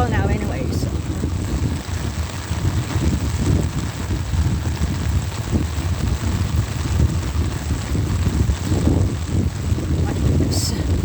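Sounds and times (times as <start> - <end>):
heavy rain on an umbrella: 0.0 - 11.0
wind buffeting microphone: 0.0 - 11.0.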